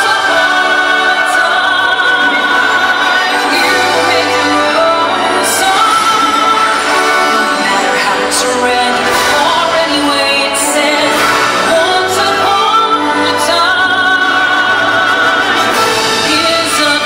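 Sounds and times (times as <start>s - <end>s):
orchestral music with singing: 0.0s - 17.0s.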